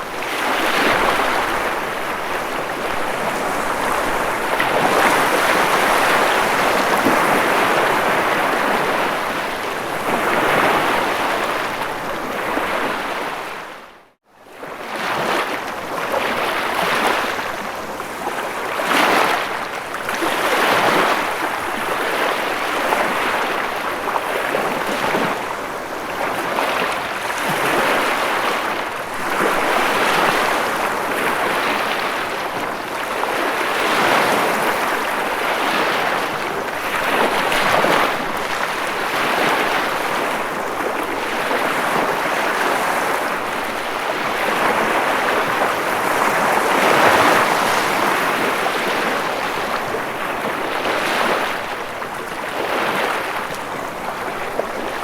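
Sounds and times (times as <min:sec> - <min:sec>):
ocean waves breaking: 0:00.0 - 0:13.8, 0:14.6 - 0:55.0.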